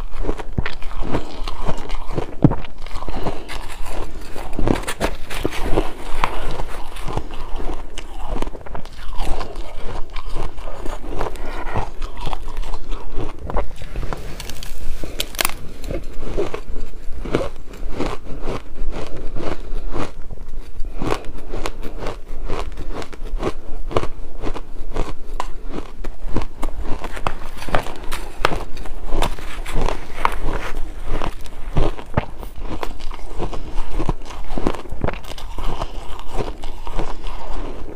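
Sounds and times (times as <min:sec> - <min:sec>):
chewing crunchy ice: 0:00.0 - 0:37.9.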